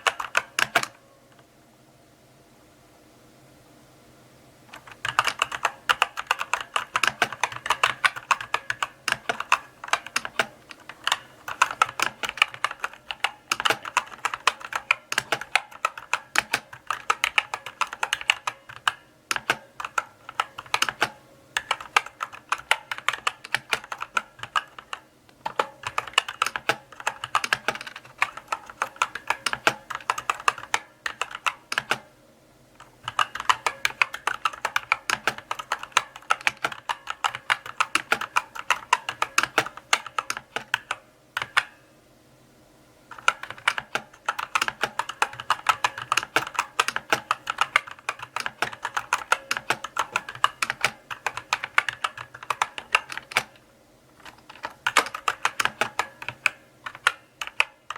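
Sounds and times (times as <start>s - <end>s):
mechanical keyboard typing: 0.0s - 1.0s, 4.7s - 32.1s, 32.8s - 41.8s, 43.1s - 53.6s, 54.2s - 57.9s.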